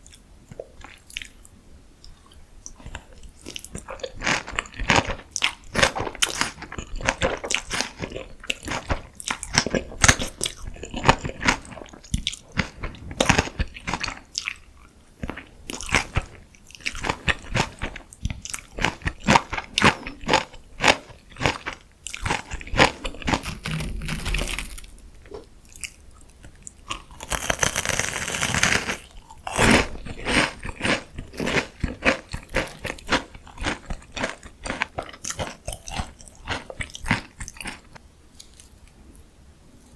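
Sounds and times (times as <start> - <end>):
chewing crunchy food: 0.0 - 39.2.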